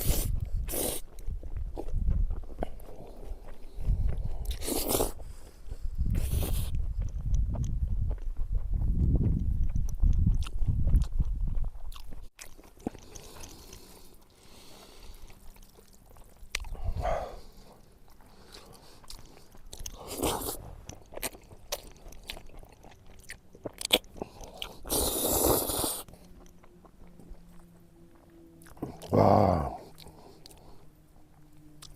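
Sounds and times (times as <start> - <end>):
person chewing food: 0.0 - 31.9.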